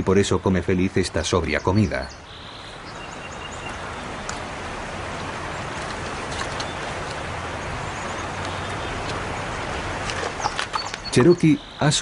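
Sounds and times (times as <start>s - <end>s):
river water running over stones: 2.0s - 12.0s.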